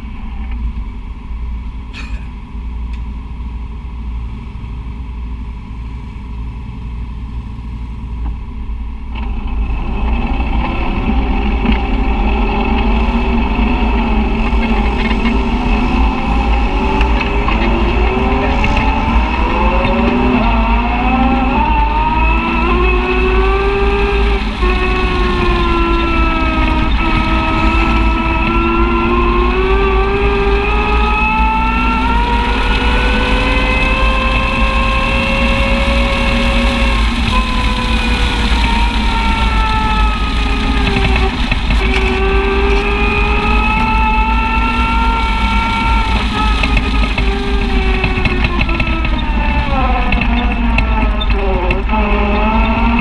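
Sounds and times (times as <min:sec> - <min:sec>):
low rumble: 0:00.0 - 0:53.0
utility vehicle engine whining: 0:00.0 - 0:53.0.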